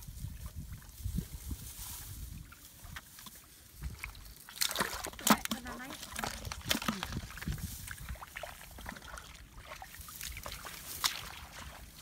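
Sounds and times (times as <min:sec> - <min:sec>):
dry grass rustling and crackling: 0:00.0 - 0:12.0.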